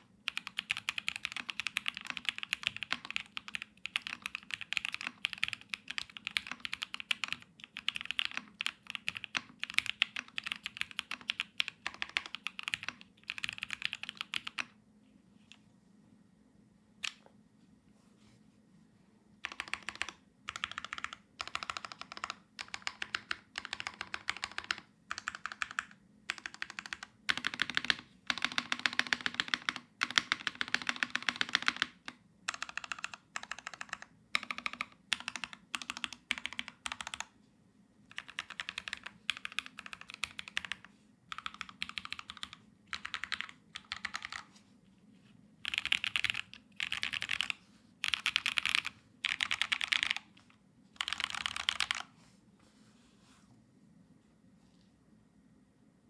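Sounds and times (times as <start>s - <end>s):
typing on mechanical keyboard: 0.0s - 14.8s, 19.4s - 37.4s, 38.1s - 44.5s, 45.6s - 52.1s.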